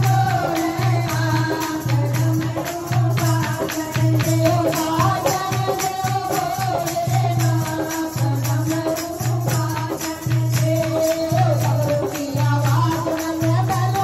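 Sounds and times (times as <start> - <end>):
jingling percussion: 0.0 - 14.0
women singing through loudspeaker: 0.0 - 14.0.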